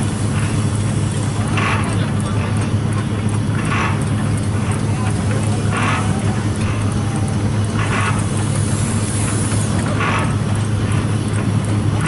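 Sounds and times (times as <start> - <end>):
threshing machine humming: 0.0 - 12.0.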